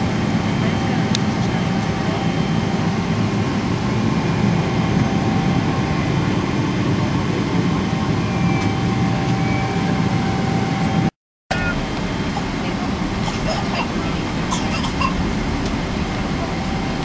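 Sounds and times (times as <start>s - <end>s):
low aircraft cabin rumble: 0.0s - 17.0s.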